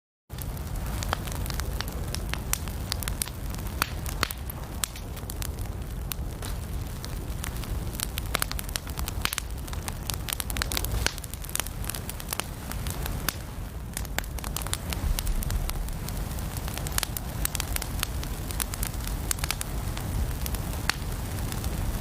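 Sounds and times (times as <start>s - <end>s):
low fire rumble: 0.3s - 22.0s
wood fire crackling and popping: 0.3s - 22.0s.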